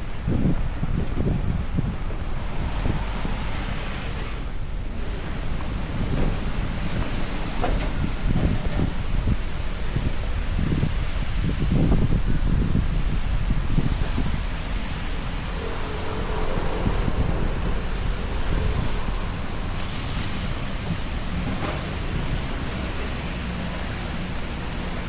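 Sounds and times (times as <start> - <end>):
gusting wind: 0.0 - 25.0
wind buffeting microphone: 0.0 - 25.0
heavy rain hiss: 0.2 - 25.0.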